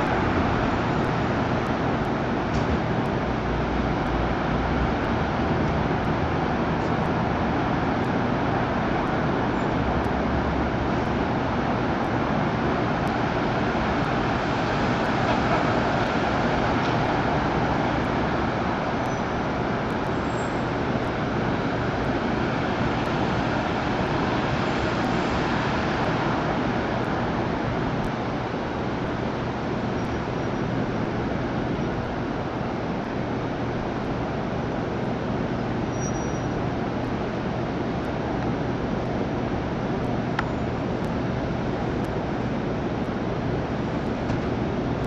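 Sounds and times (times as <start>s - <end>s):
city traffic noise: 0.0s - 45.0s.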